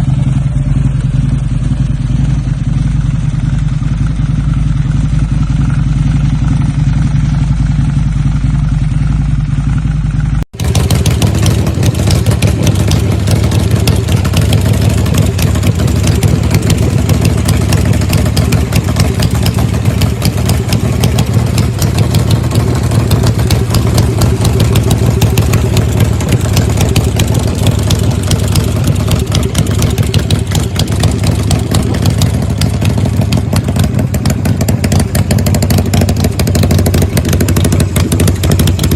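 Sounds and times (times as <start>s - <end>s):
motorcycle engine rough pulsing: 0.0s - 38.9s
motorcycle engines running: 0.0s - 38.9s.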